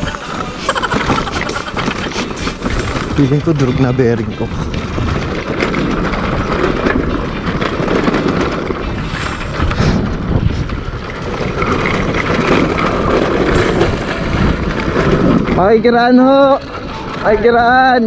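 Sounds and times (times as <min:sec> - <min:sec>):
knocks and rattles: 0:00.0 - 0:15.9
wind on microphone: 0:00.0 - 0:15.9
motorcycle engine running: 0:00.0 - 0:16.0.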